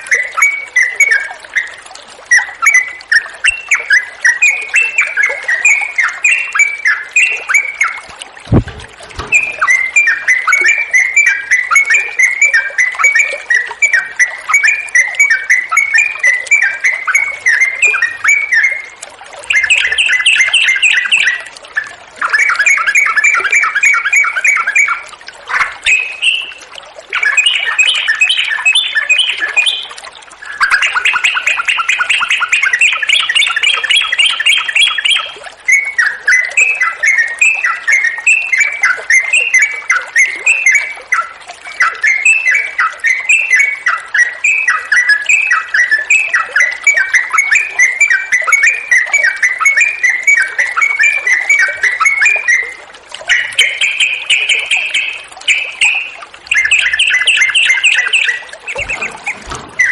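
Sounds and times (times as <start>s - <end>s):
bird singing rolling trills: 0.0s - 59.9s.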